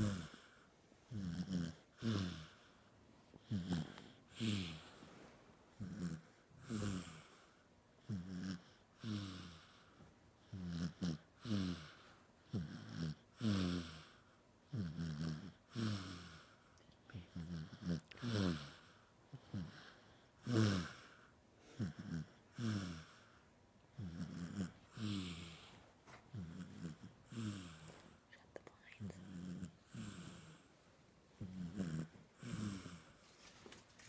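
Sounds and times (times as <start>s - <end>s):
rasping snores: 0.0s - 2.7s, 3.4s - 4.9s, 5.8s - 7.4s, 8.1s - 9.8s, 10.5s - 16.5s, 17.2s - 23.3s, 24.0s - 28.1s, 29.0s - 30.6s, 31.4s - 33.2s.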